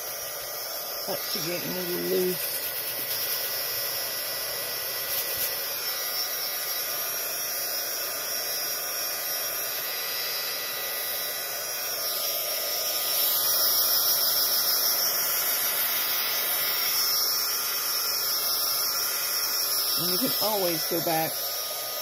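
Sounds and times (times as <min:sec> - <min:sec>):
heat tool blowing hot air: 0:00.0 - 0:22.0.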